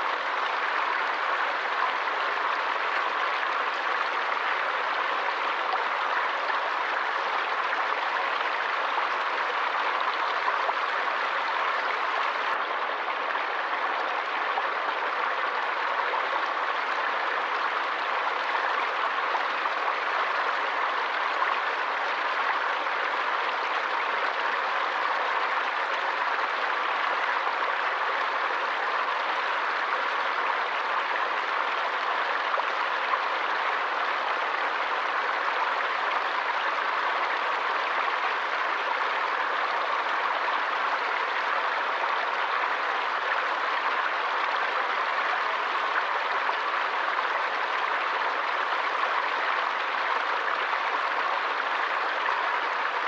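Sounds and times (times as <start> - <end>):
forest stream rushing: 0.0 - 53.0.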